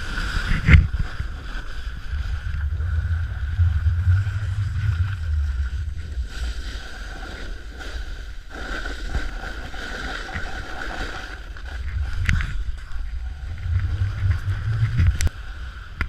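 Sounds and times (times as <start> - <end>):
snowboard scraping on snow: 0.0 - 16.0
wind buffeting the microphone: 0.0 - 16.0.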